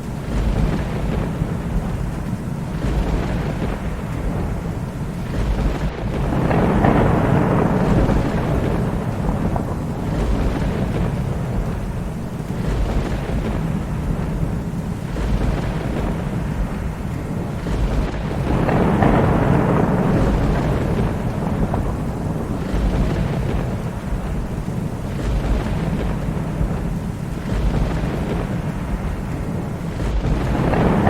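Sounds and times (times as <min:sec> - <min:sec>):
steady rain: 0:00.0 - 0:31.0
thunder rumbling: 0:00.0 - 0:31.0.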